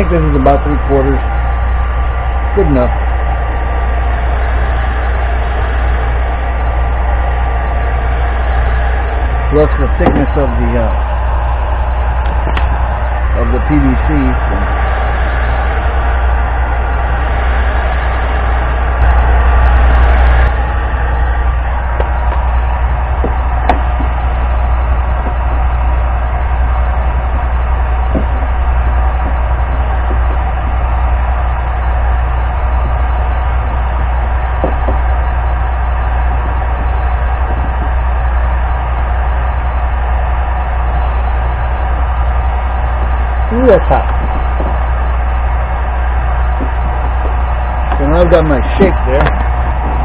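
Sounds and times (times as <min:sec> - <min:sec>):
heat gun humming: 0:00.0 - 0:50.0.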